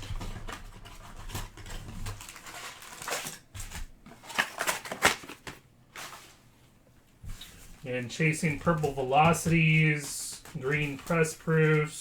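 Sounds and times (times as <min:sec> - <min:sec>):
card packaging rustling and crinkling: 0:00.0 - 0:12.0.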